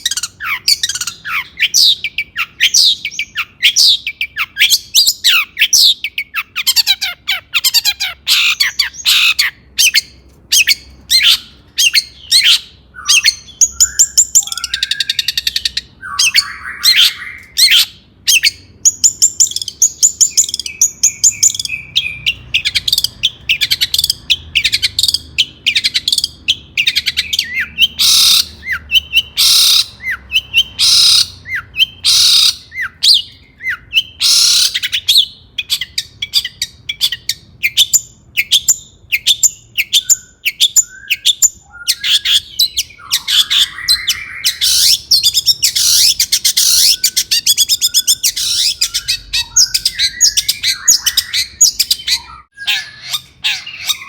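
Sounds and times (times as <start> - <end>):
bird harsh rasping calls: 0.0 - 54.0
bird singing chirps and whistles: 0.0 - 54.0.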